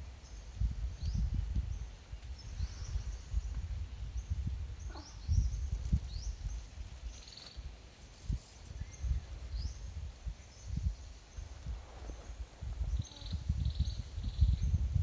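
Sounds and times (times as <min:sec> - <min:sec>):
birds chirping: 0:00.2 - 0:14.8.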